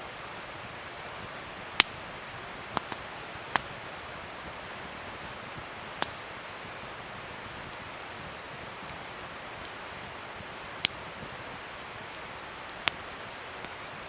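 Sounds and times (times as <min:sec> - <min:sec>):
fire crackling pops: 0:00.0 - 0:14.0
wood fire hissing: 0:00.0 - 0:14.0.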